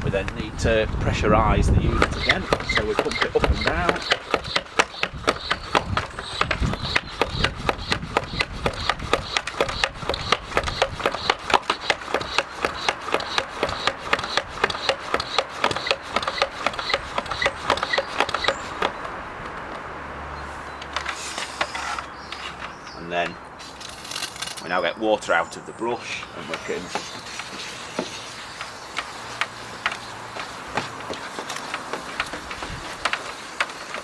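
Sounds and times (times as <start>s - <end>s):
hand pump clicking strokes: 0.1s - 19.7s, 23.6s - 24.8s, 26.1s - 34.0s.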